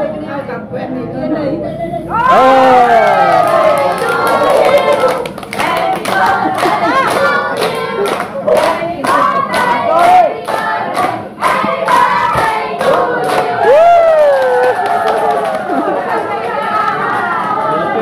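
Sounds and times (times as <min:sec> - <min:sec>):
group singing a celebration song: 0:02.3 - 0:18.0
people clapping in time: 0:02.4 - 0:17.8.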